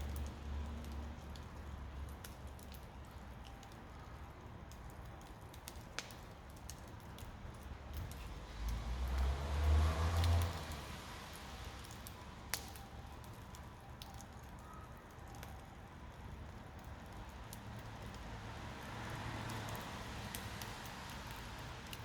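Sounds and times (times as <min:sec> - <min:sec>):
campfire crackling: 0:00.0 - 0:22.0
fire popping and snapping: 0:00.0 - 0:22.0.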